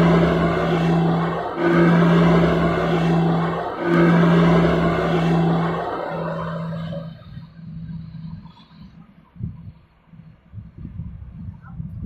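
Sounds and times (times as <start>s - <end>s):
noisy rush: 0.0s - 9.8s
propeller plane engines droning: 0.0s - 9.9s.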